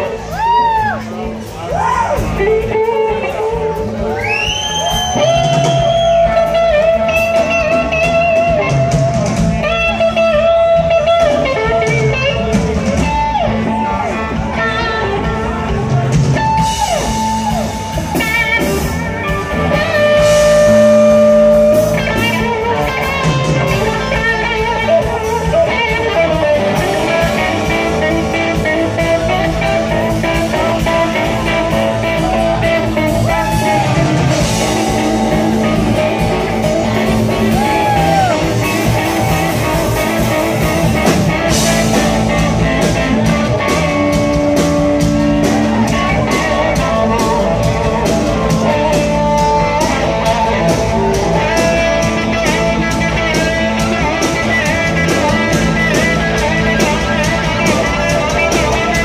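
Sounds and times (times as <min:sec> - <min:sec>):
electric guitar solo: 0:00.0 - 0:59.0
live rock band: 0:00.0 - 0:59.0.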